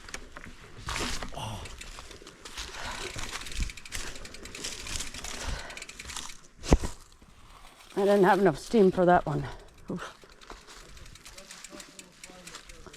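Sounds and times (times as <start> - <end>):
bike frame rattling: 0.0 - 12.9
bike tyre and drivetrain noise: 0.0 - 12.9.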